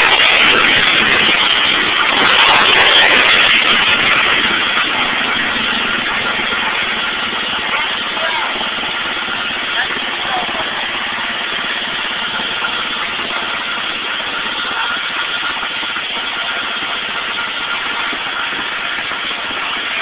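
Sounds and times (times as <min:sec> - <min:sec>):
mower engine running: 0:00.0 - 0:20.0.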